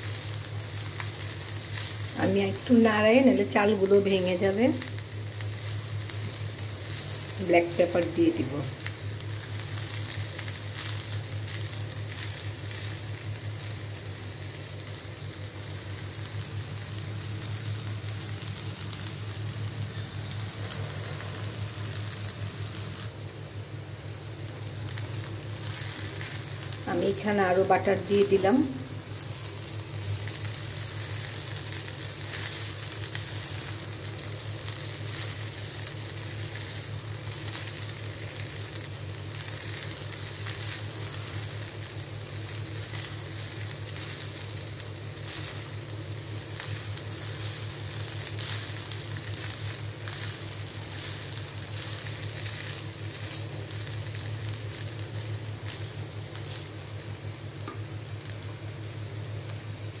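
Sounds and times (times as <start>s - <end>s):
rice sizzling in a pan: 0.0s - 60.0s
steady low hum: 0.0s - 60.0s.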